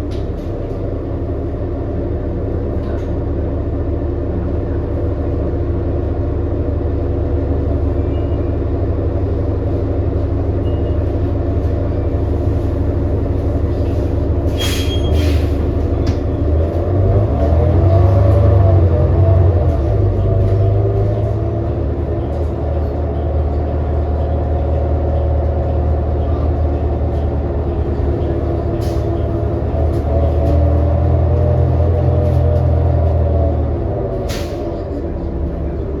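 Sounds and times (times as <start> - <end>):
bus engine drone: 0.0 - 36.0.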